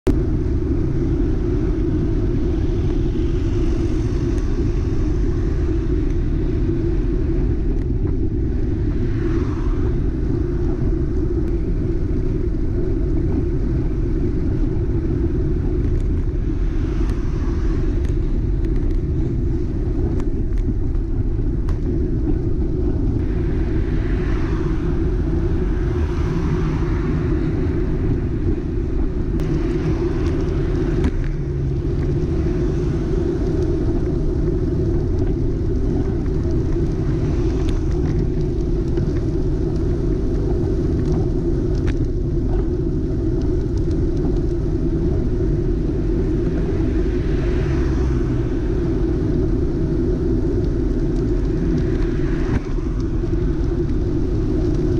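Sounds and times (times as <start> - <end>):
wind and road rumble: 0.0 - 54.9
cars passing by: 0.2 - 42.7, 44.4 - 54.9.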